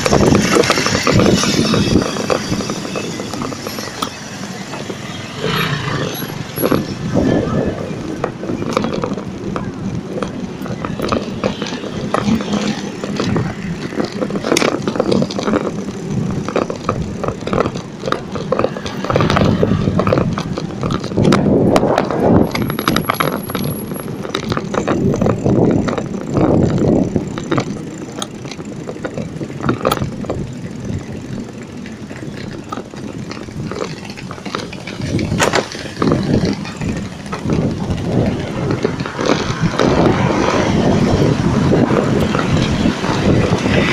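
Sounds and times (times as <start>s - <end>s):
bicycle rattling over bricks: 0.0s - 43.9s.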